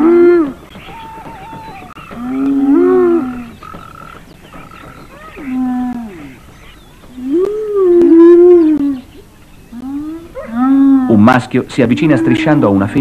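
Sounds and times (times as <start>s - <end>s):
hyenas calling: 0.0s - 13.0s.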